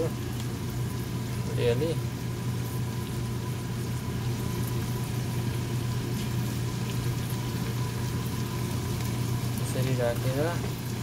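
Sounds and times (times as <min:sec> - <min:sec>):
chicken sizzling in a pan: 0:00.0 - 0:11.0
low kitchen hum: 0:00.0 - 0:11.0.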